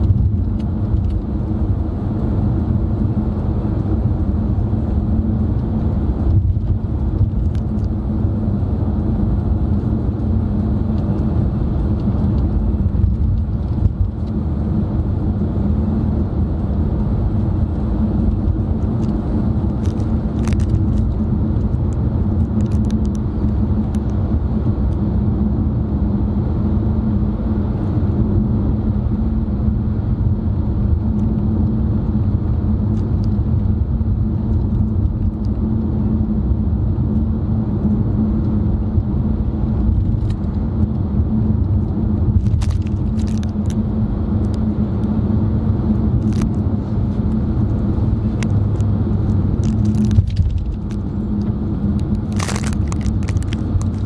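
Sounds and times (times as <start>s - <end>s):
car cabin tyre and engine rumble: 0.0s - 54.0s.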